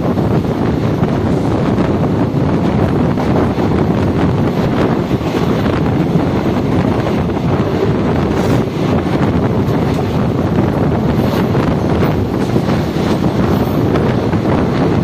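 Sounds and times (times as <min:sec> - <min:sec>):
train coach running noise: 0:00.0 - 0:15.0
wind buffeting microphone: 0:00.0 - 0:15.0.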